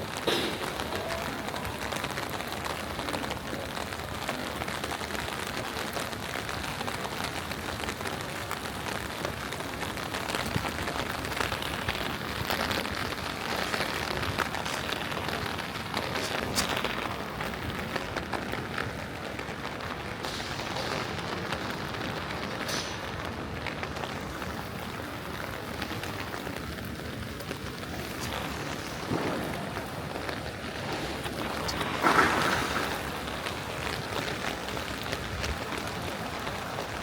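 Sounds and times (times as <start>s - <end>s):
rain falling: 0.0s - 37.0s.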